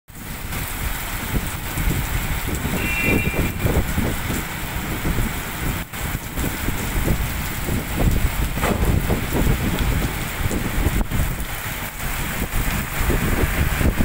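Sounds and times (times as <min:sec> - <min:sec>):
heavy rain on street: 0:00.1 - 0:14.0.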